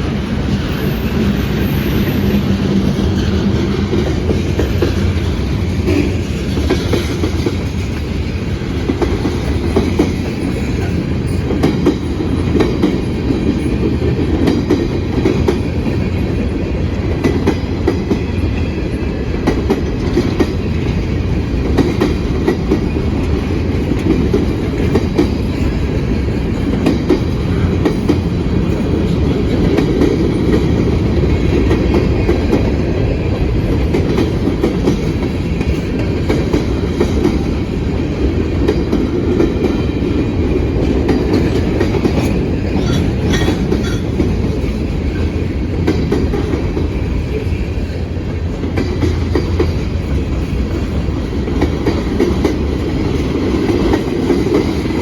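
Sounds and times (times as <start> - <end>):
freight train rumble: 0.0 - 55.0
wheels clacking over rail joints: 0.0 - 55.0.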